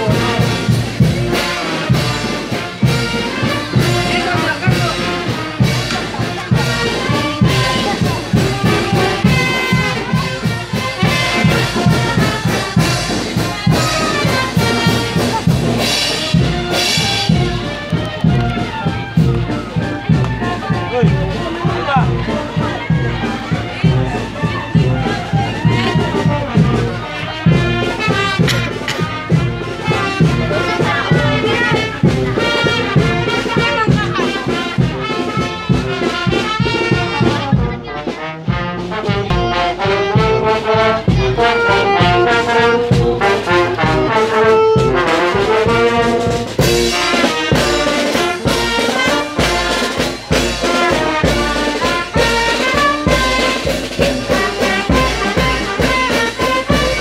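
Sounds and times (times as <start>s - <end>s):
marching brass band playing: 0.0s - 57.0s
steady drumbeat: 0.0s - 57.0s.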